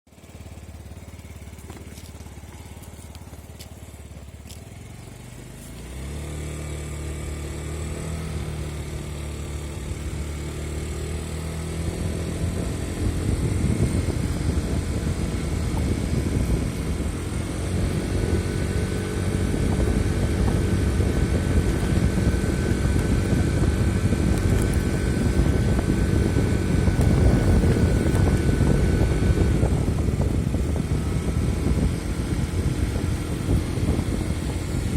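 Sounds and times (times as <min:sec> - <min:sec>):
scooter engine running: 0:00.1 - 0:34.9.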